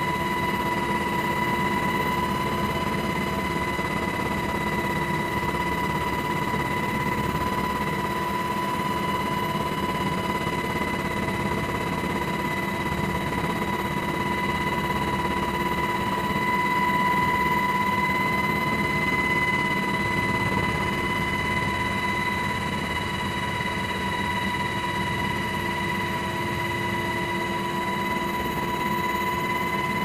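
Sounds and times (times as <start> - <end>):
helicopter engines and rotors: 0.0 - 30.0.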